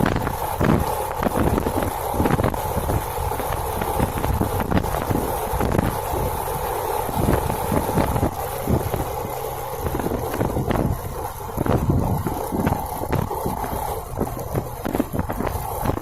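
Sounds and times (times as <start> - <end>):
vehicle running on road: 0.0 - 16.0
wind rumbling on microphone: 0.0 - 16.0.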